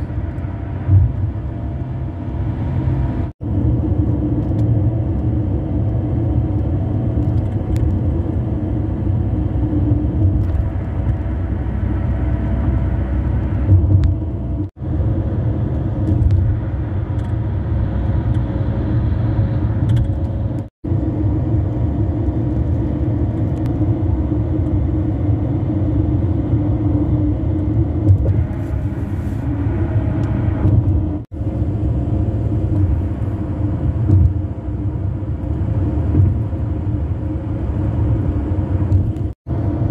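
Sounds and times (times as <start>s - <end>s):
tyre and road noise in car: 0.0s - 39.9s.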